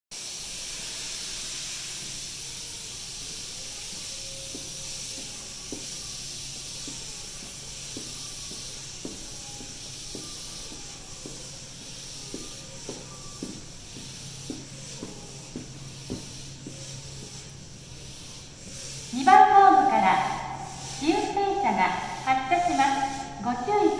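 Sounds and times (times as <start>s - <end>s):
subway train rolling hiss: 0.1s - 23.9s.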